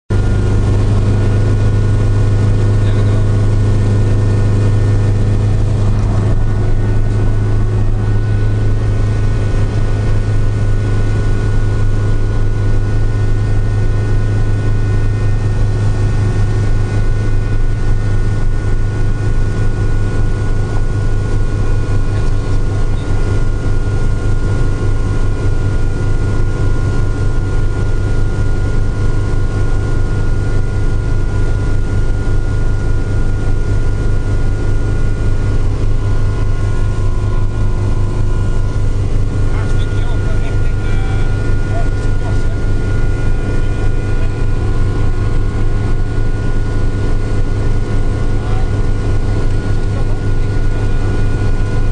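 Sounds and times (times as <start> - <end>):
helicopter rotor drone: 0.1 - 51.9
thin steady whine: 0.1 - 51.9.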